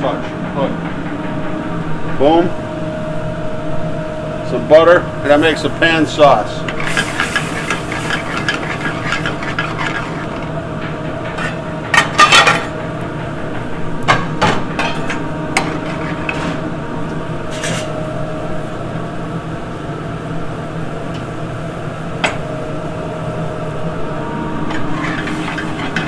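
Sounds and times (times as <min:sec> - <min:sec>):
busy kitchen roar: 0:00.0 - 0:26.0.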